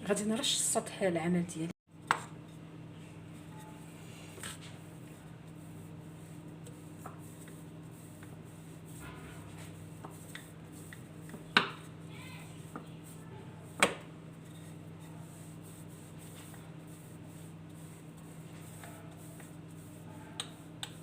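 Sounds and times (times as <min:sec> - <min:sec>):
steady low hum: 0:01.9 - 0:21.0.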